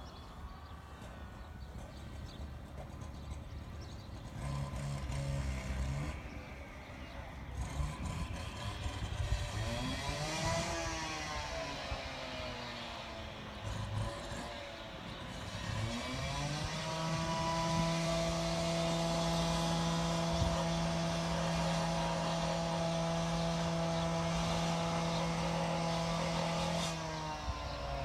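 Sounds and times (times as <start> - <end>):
electric motor and propeller whining: 0.0 - 28.0.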